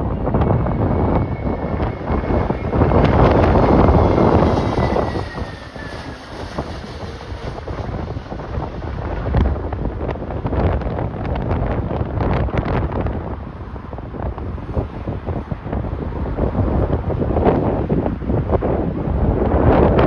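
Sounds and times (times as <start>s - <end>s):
jet airliner roar: 0.0s - 20.0s
wind buffeting microphone: 0.0s - 20.0s.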